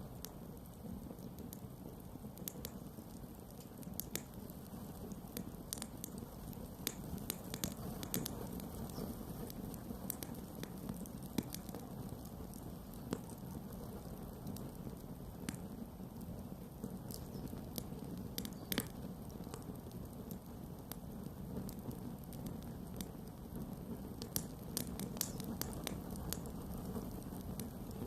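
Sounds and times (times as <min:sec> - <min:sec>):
campfire crackling and popping: 0:00.0 - 0:28.0
fire low rumble: 0:00.0 - 0:28.0.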